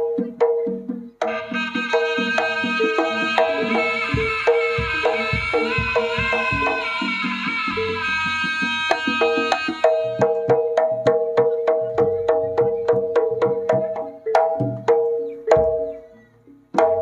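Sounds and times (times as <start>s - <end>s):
drum strokes: 0.0s - 17.0s
gamelan music: 0.0s - 17.0s.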